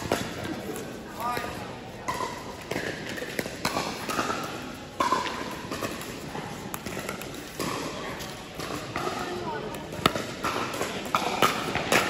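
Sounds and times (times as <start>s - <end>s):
paddles striking plastic balls: 0.0s - 12.0s.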